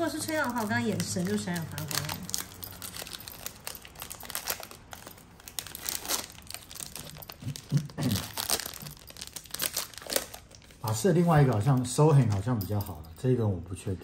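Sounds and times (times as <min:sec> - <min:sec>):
foil wrapper crinkling: 0:00.0 - 0:12.4.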